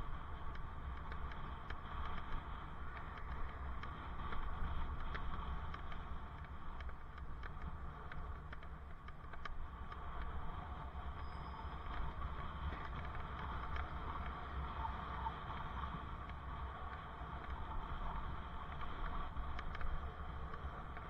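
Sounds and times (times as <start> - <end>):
bicycle road noise: 0.0 - 21.0
wind rumble on microphone: 0.0 - 21.0
light clicks and rattles: 0.4 - 21.0.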